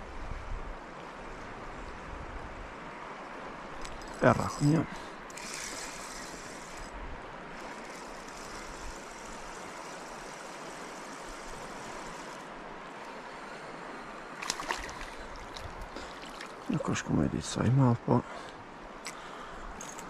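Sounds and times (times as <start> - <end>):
river water rushing: 0.8 - 17.0.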